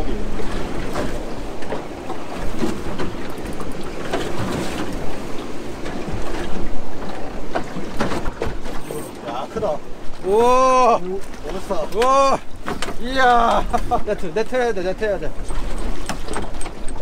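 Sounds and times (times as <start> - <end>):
water slapping against hull: 0.0 - 17.0
wind buffeting microphone: 0.0 - 17.0.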